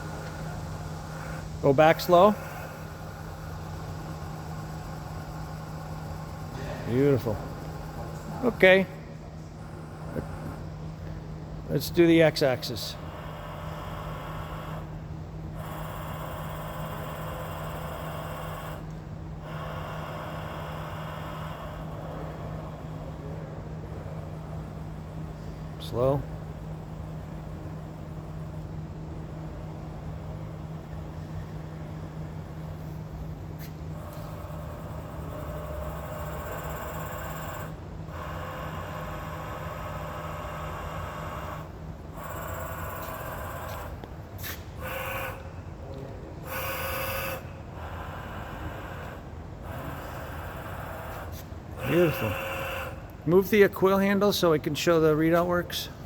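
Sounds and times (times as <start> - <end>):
drive motor whining: 0.0 - 11.7, 13.0 - 54.2
electrical hum: 0.0 - 56.0.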